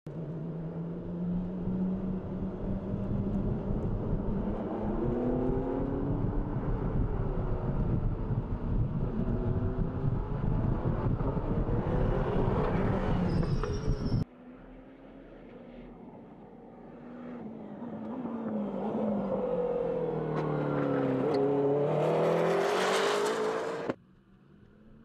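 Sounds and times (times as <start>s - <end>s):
race car engine accelerating: 0.1s - 24.0s.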